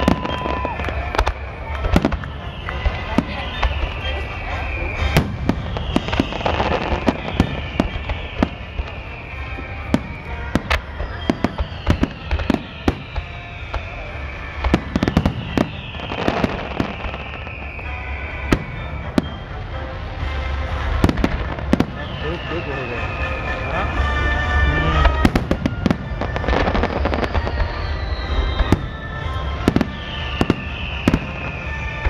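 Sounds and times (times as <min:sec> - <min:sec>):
falling fireworks whistles: 0:00.0 - 0:32.0
fireworks bangs and booms: 0:00.0 - 0:32.0.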